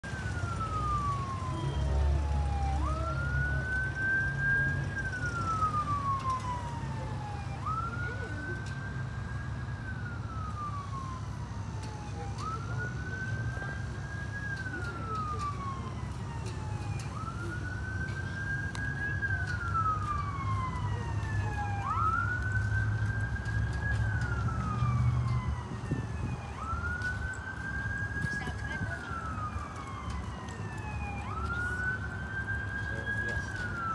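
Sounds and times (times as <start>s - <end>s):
emergency siren wailing: 0.0s - 33.9s.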